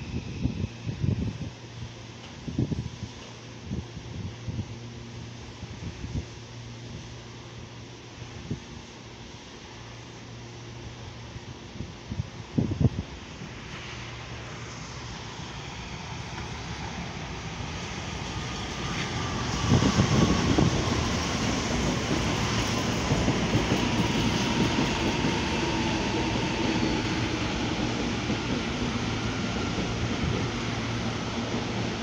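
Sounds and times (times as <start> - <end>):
electric train passing: 0.0 - 32.0.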